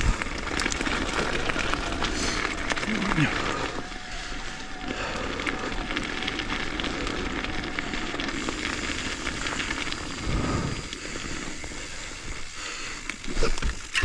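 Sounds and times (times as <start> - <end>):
bike clicks and rattles: 0.0 - 14.0
bike tyres rolling on trail: 0.0 - 14.0.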